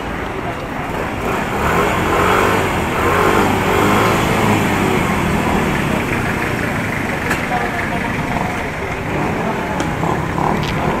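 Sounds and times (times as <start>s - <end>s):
vehicle engine revving: 0.8s - 11.0s.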